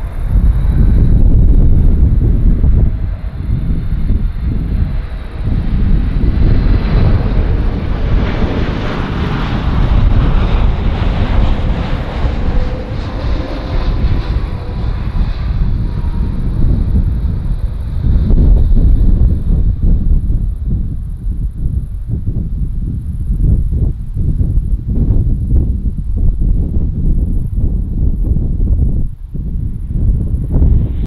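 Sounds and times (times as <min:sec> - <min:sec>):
faint jet whine: 0:00.0 - 0:31.0
jet aircraft roar: 0:00.0 - 0:31.0.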